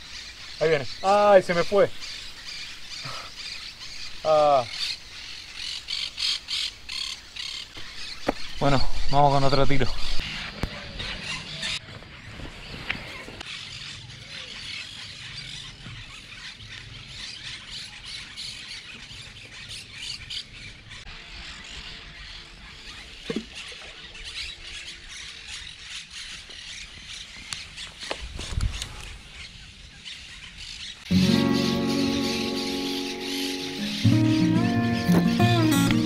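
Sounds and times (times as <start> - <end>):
birds squawking and calling: 0.0 - 36.0.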